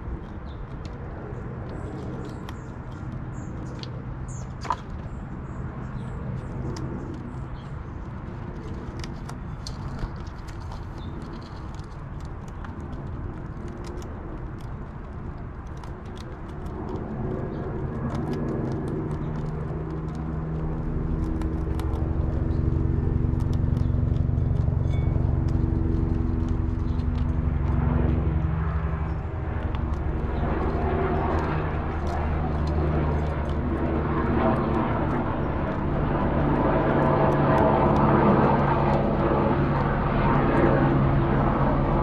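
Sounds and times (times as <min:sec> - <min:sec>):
low engine drone: 0:00.0 - 0:42.0
squirrels nibbling clicks: 0:00.0 - 0:42.0.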